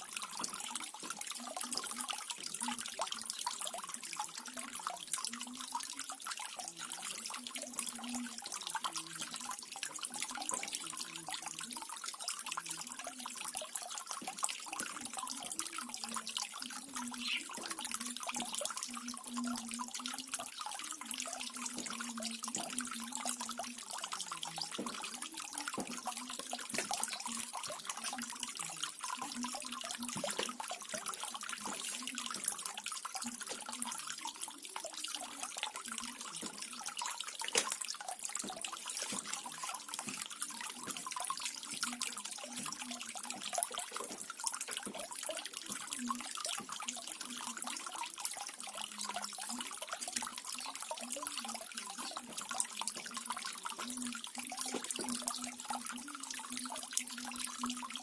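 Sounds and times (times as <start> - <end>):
small waterfall splashing: 0.0 - 58.0
water gurgles: 0.0 - 58.0.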